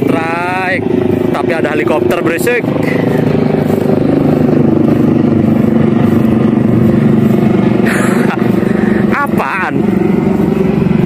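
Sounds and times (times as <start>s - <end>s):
helicopter drone with flutter: 0.0s - 11.0s.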